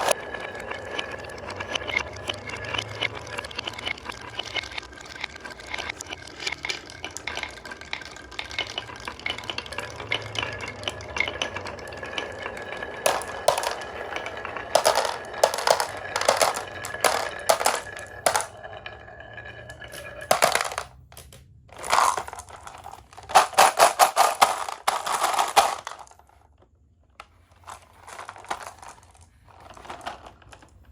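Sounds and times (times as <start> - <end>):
glass marbles rolling on wooden track: 0.0 - 26.6, 27.2 - 30.9.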